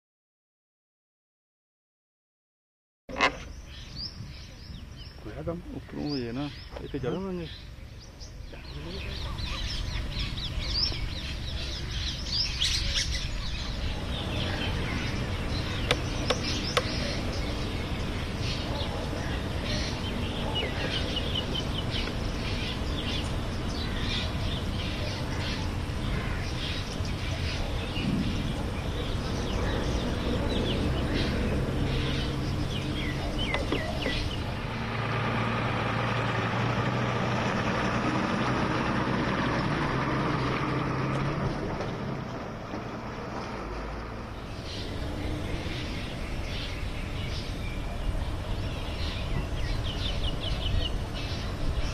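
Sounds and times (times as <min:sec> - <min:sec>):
small birds chirping: 0:03.1 - 0:37.2, 0:42.2 - 0:51.9
low outdoor rumble: 0:03.1 - 0:51.9
truck engine running: 0:06.8 - 0:51.9.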